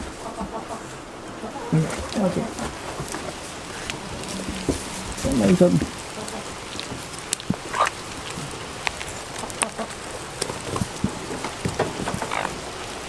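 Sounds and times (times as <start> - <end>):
hens calling: 0.0 - 13.0
rain pattering on the ground: 0.0 - 13.0.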